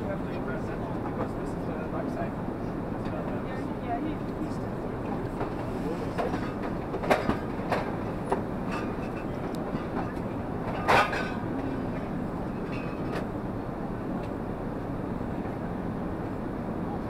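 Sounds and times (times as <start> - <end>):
airplane cabin rumble and hiss: 0.0 - 17.0.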